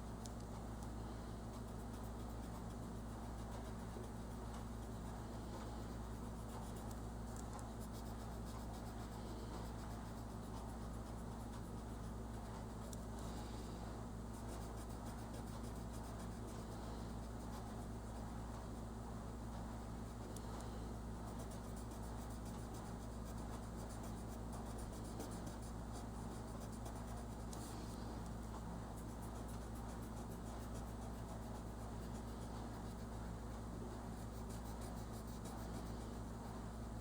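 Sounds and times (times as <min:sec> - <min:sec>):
steady low hum: 0:00.0 - 0:37.0
colouring strokes on paper: 0:01.0 - 0:18.4, 0:19.9 - 0:37.0.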